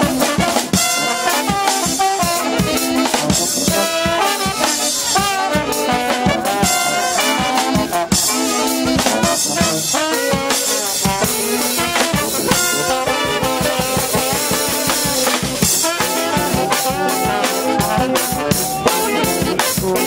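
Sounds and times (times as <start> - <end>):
brass band playing: 0.0 - 20.0
drum kit beat: 0.0 - 20.0.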